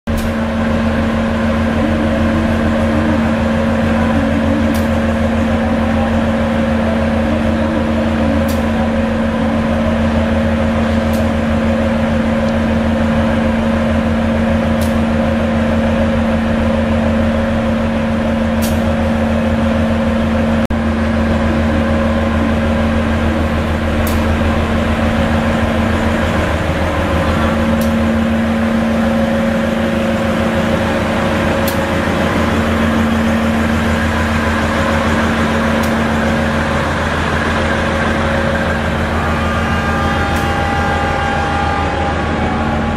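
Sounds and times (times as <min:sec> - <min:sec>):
diesel engine exhaust drone: 0:00.1 - 0:42.9.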